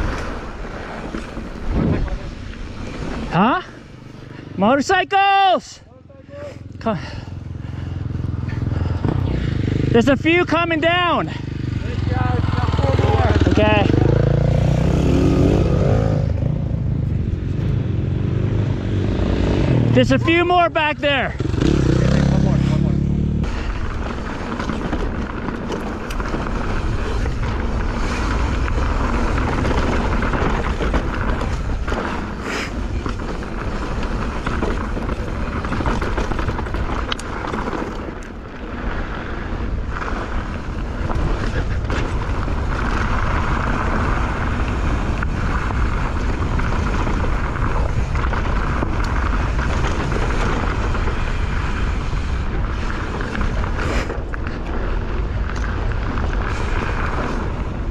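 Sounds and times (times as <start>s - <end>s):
bike tyres rumbling on trail: 0.0s - 57.9s.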